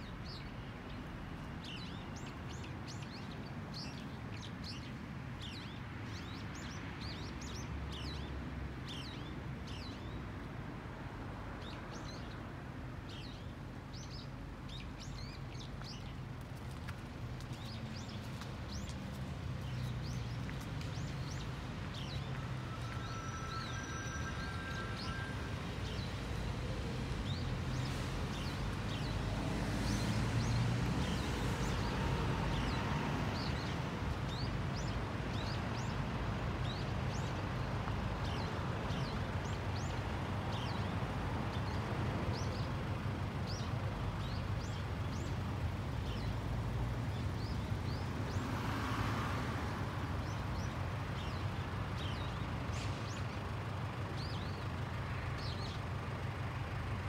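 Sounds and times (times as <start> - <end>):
distant traffic rumble: 0.0 - 57.0.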